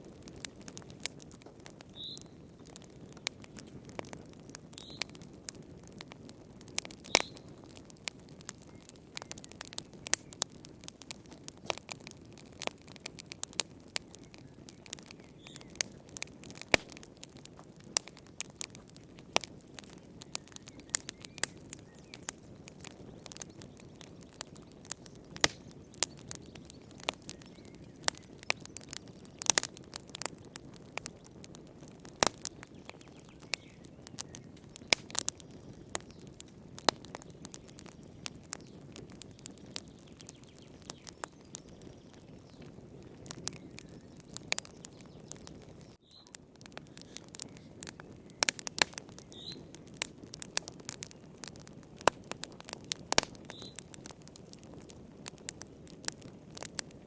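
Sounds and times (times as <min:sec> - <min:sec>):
rush of flames: 0:00.0 - 0:57.0
wood fire crackling and popping: 0:00.0 - 0:57.0.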